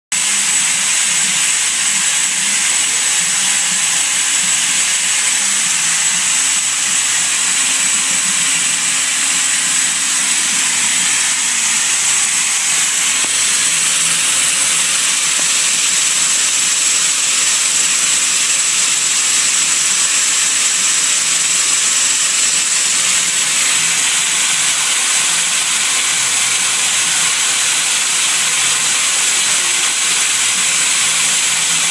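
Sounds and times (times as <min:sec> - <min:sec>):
high machine whine: 0:00.2 - 0:31.9
coolant spray hissing: 0:01.5 - 0:31.9.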